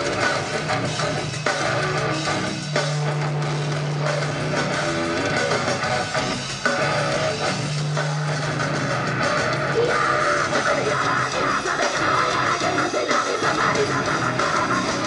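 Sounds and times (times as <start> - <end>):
metal band playing live: 0.0 - 15.0.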